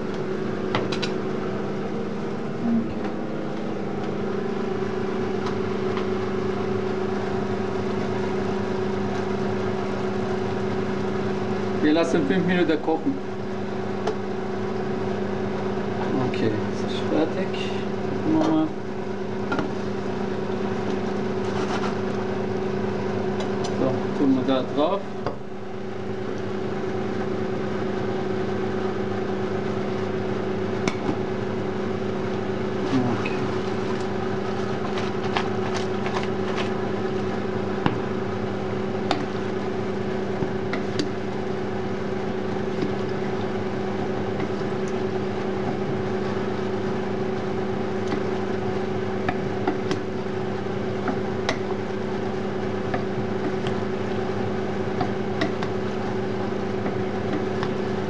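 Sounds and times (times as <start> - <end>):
kitchen appliance hum: 0.0 - 58.0.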